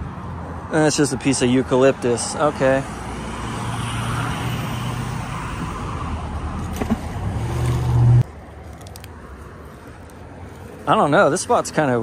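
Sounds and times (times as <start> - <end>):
road traffic engine hum: 0.0 - 12.0.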